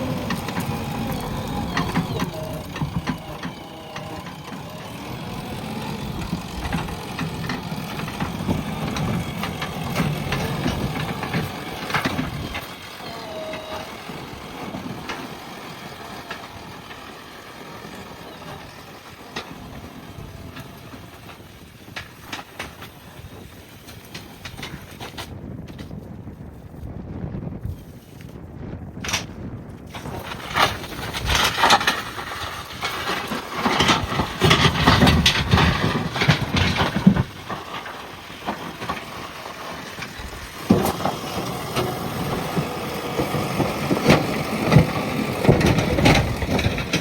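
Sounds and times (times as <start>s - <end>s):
knocks and clanks: 0.0s - 23.1s, 29.0s - 47.0s
diesel engine running: 0.0s - 25.1s, 29.0s - 47.0s.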